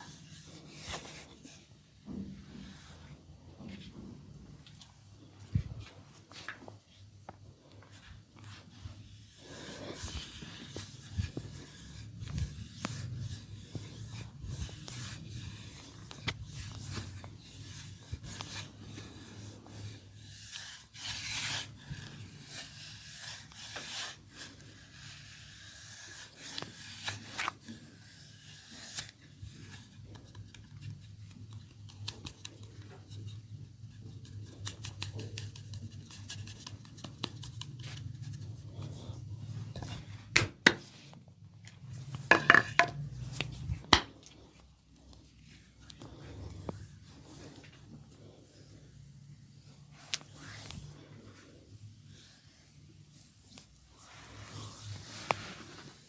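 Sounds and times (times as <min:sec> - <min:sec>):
hands rubbing bare skin: 0:00.0 - 0:40.2, 0:43.1 - 0:56.0.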